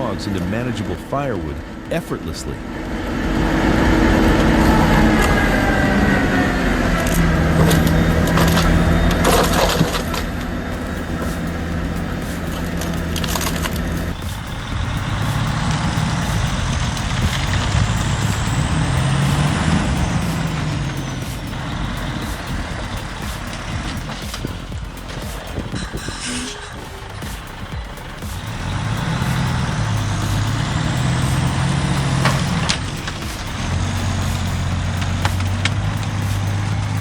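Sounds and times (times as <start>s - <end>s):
heavy machinery engine running: 0.0s - 37.0s
sharp cracks: 2.7s - 37.0s.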